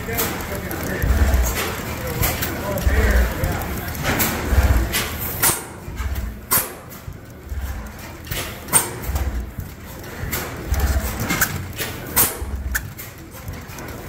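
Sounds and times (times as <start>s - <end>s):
gas engine exhaust thumps: 0.0s - 14.0s
valve gear clicks: 0.0s - 14.0s.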